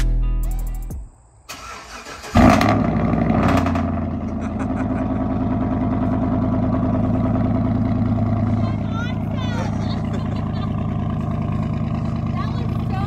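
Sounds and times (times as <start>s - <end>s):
vehicle engine starting and idling: 1.5s - 13.0s.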